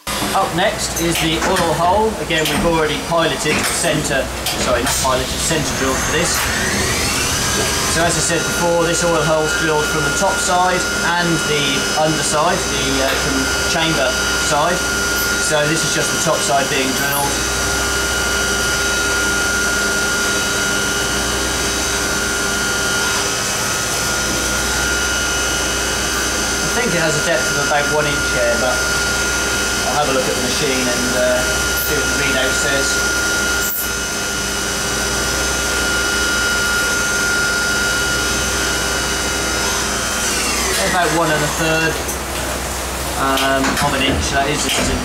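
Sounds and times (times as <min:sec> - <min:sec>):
machine spindle whine: 0:00.0 - 0:45.0.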